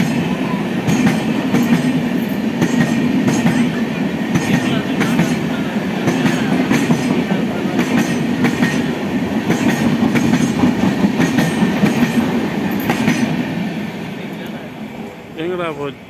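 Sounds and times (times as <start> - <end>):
train coaches rumbling: 0.0 - 16.0.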